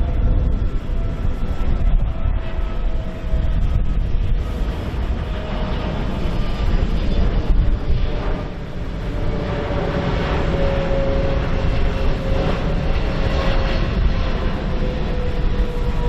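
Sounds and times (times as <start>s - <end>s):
jet airliner rumble: 0.0s - 16.0s.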